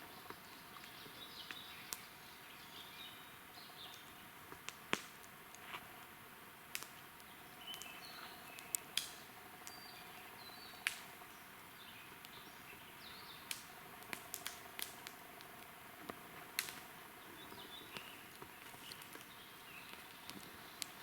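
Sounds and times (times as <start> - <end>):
wood fire crackling and popping: 3.9 - 21.0.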